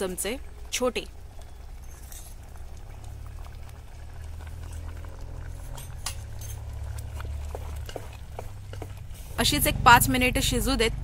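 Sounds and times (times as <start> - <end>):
syrup bubbling in a metal pot: 0.0 - 11.0.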